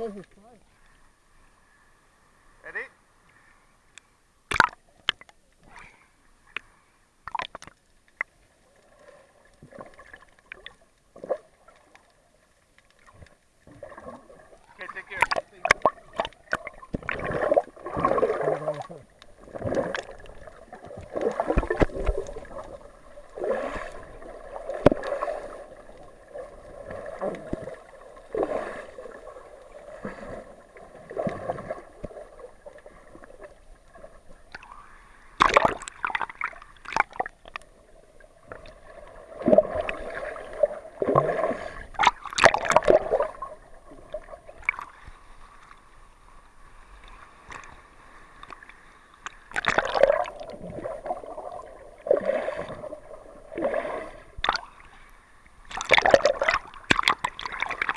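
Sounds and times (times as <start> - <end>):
water sloshing and gurgling: 4.5 - 57.9.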